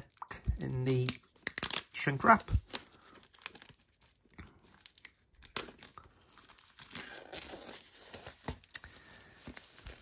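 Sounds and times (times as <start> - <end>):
plastic wrap crinkling and tearing: 0.0 - 10.0.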